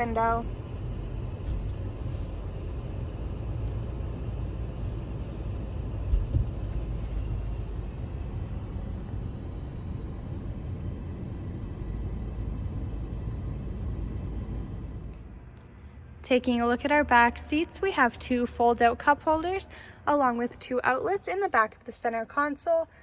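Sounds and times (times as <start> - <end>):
low rumble: 0.0 - 20.1.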